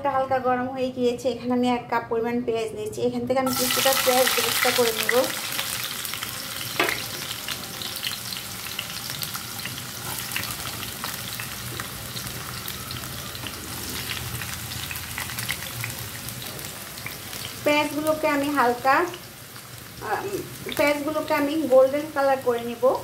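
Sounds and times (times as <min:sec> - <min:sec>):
onions sizzling in hot oil: 0:03.5 - 0:23.0.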